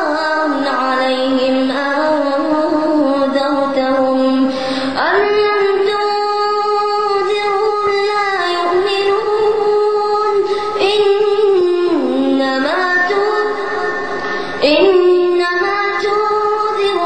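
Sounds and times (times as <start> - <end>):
boy chanting melodically: 0.0 - 17.0.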